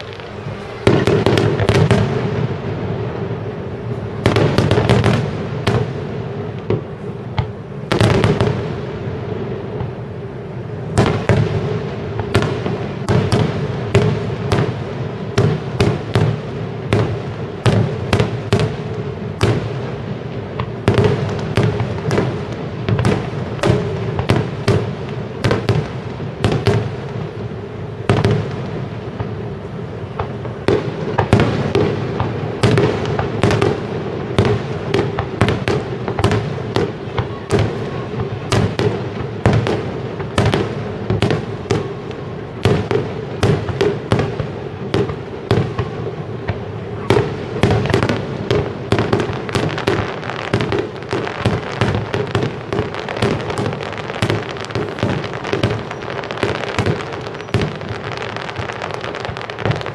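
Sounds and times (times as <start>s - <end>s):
firework bangs and crackles: 0.0s - 59.9s.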